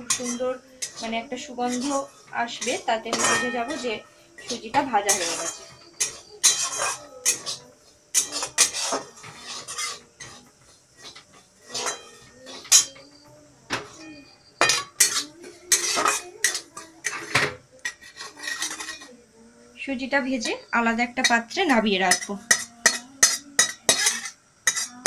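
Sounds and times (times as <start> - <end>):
metal spatula scraping metal pan: 0.0 - 13.2, 13.8 - 19.2, 20.4 - 25.0.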